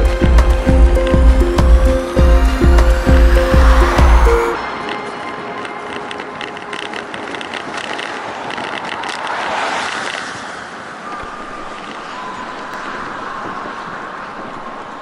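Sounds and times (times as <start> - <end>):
tyre noise on paved road: 0.0 - 15.0
wind rushing over microphone: 0.0 - 15.0
car passing by: 1.1 - 15.0.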